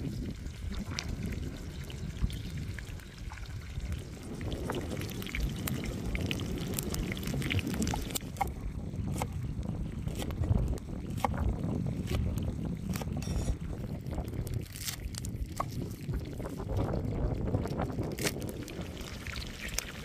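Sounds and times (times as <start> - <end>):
wood fire crackling: 0.0 - 8.4, 9.1 - 20.0
steady low rumble: 0.0 - 20.0.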